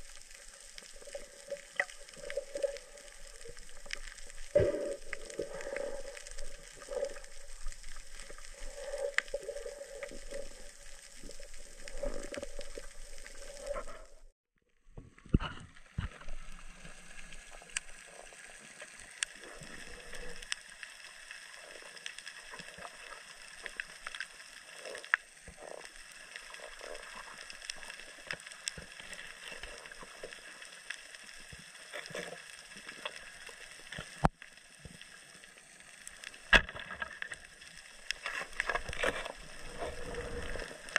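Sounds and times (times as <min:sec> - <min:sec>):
underwater hiss with clicks: 0:00.0 - 0:14.3, 0:15.8 - 0:40.9
water gurgling: 0:00.0 - 0:14.3, 0:15.3 - 0:40.9.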